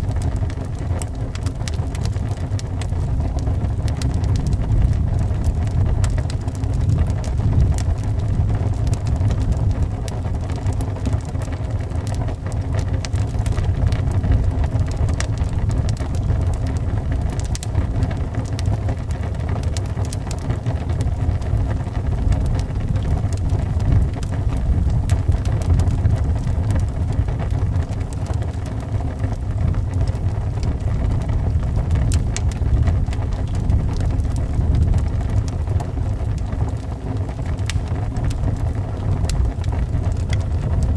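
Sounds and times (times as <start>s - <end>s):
howling wind: 0.0s - 40.9s
wood fire crackling and popping: 0.0s - 40.9s.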